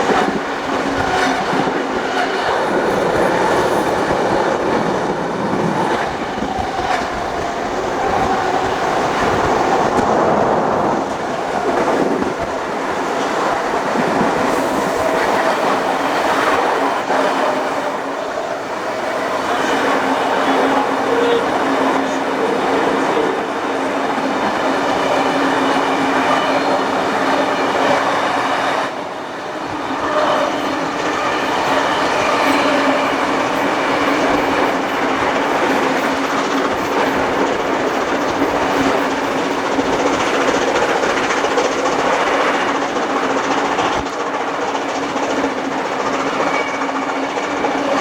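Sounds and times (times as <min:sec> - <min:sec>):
train wheels rolling on rails: 0:00.0 - 0:48.0.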